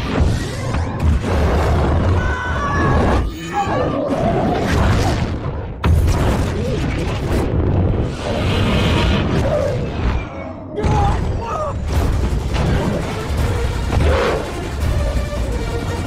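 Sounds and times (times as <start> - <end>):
heavy booms and explosions: 0.0 - 3.4, 4.0 - 16.0
dramatic film score: 0.0 - 16.0.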